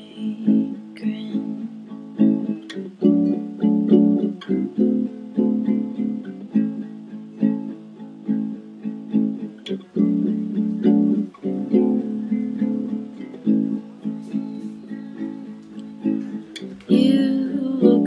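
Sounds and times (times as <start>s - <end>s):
acoustic guitar playing chords: 0.0s - 18.0s.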